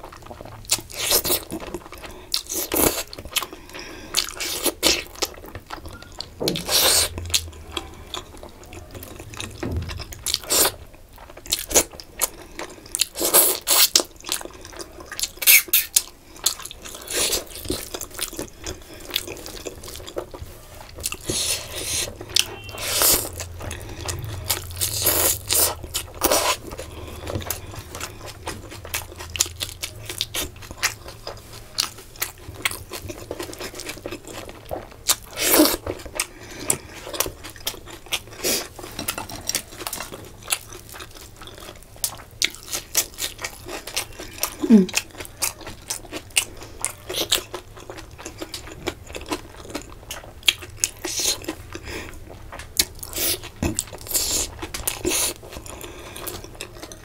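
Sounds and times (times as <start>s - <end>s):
person chewing with wet smacks: 0.0s - 57.0s.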